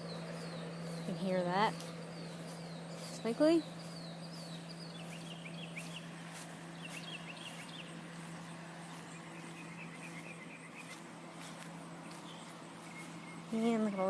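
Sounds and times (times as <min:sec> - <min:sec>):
small bird chirping: 0:00.0 - 0:14.0
steady low hum: 0:00.0 - 0:14.0.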